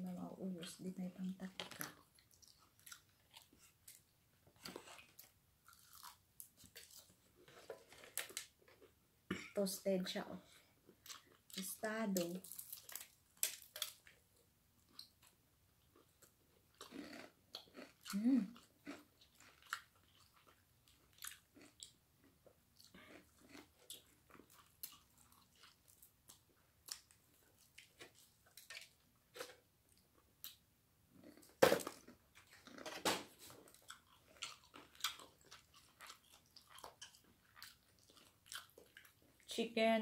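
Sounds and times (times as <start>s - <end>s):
chewing crispy fried chicken: 1.6s - 8.9s, 10.5s - 39.5s.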